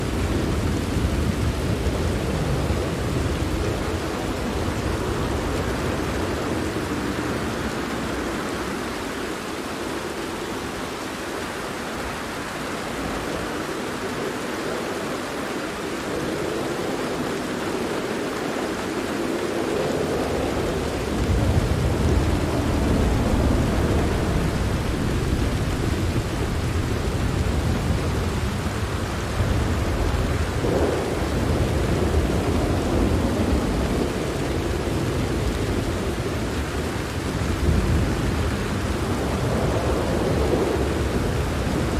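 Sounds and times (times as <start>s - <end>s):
rolling thunder: 0.0s - 9.0s, 16.0s - 41.9s
steady rain: 0.0s - 41.9s.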